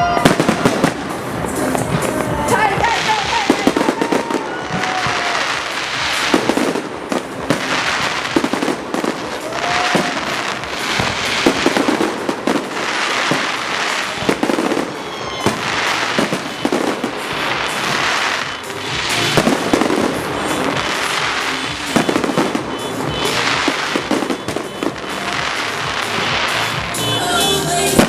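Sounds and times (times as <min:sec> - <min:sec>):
fireworks bangs: 0:00.0 - 0:28.0
fireworks crackle: 0:00.0 - 0:28.0
whistling fireworks: 0:00.0 - 0:28.0.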